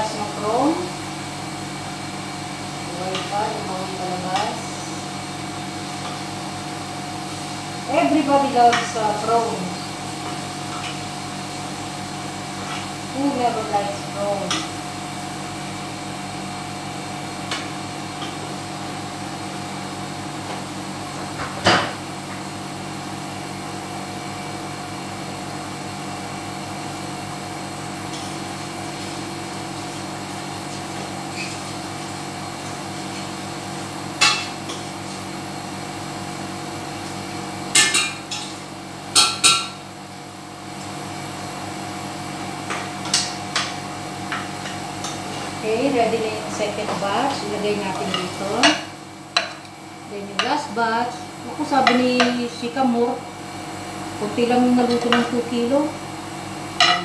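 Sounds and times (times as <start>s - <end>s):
cooker hood fan hum: 0.0s - 57.0s.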